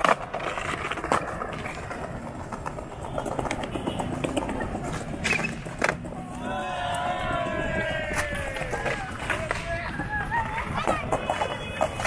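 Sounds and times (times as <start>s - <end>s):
skateboard clacks: 0.0s - 12.0s
skateboard wheels rolling on pavement: 0.0s - 12.0s.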